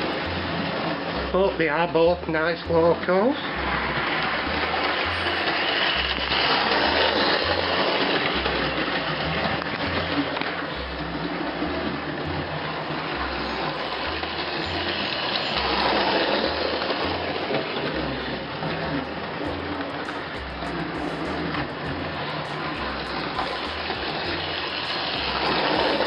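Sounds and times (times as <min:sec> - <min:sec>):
background music with bass line: 0:00.0 - 0:26.0.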